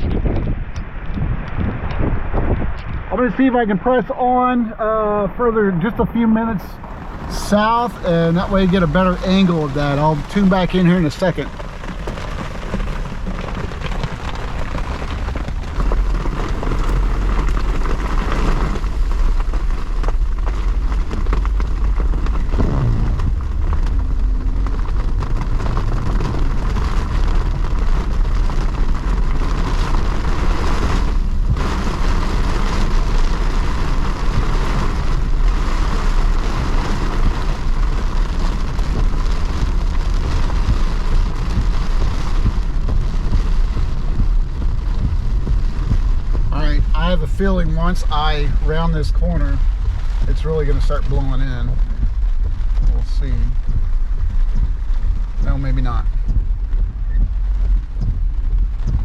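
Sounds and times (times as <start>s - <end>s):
road and engine rumble: 0.0s - 59.0s
rain on a car: 0.9s - 59.0s.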